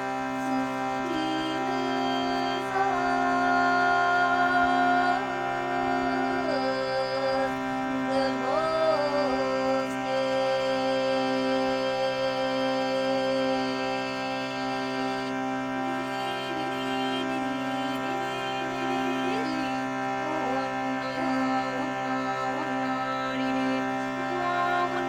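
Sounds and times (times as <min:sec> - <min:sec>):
music drone: 0:00.0 - 0:25.0.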